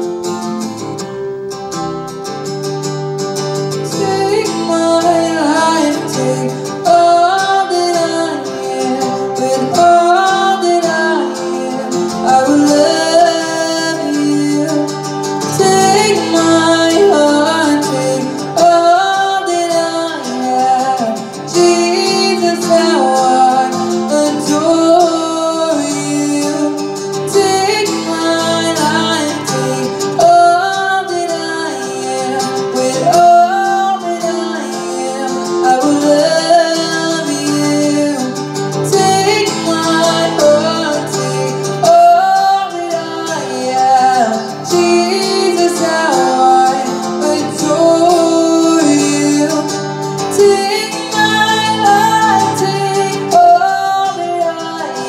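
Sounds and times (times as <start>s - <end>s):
acoustic guitar: 0.0s - 55.0s
woman singing: 3.6s - 55.0s.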